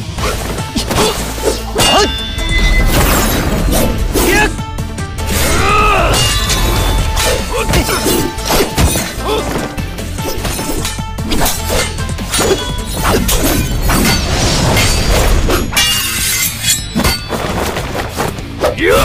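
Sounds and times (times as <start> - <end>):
action music score: 0.0 - 19.0
sword blades clashing: 0.8 - 4.6, 5.3 - 18.4.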